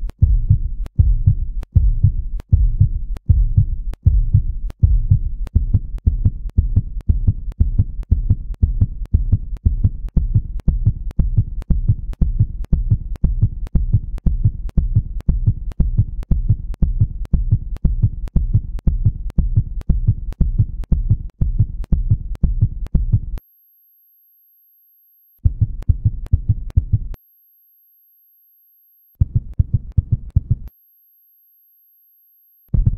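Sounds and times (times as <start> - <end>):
heartbeat pulses: 0.0 - 23.4, 25.4 - 27.2, 29.2 - 30.7.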